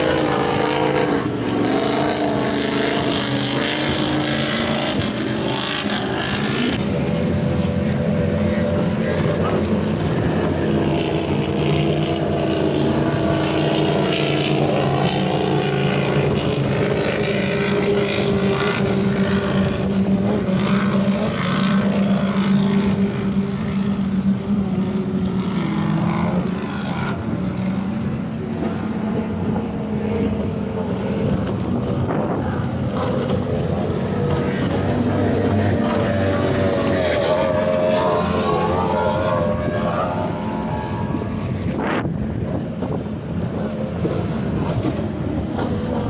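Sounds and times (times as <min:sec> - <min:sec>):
powerboat engines racing: 0:00.0 - 0:46.0.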